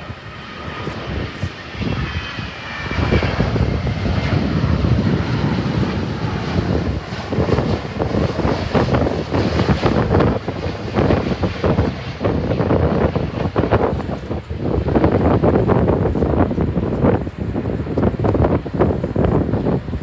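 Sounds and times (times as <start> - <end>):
jet engines roaring: 0.0 - 20.0
wind buffeting microphone: 0.0 - 20.0.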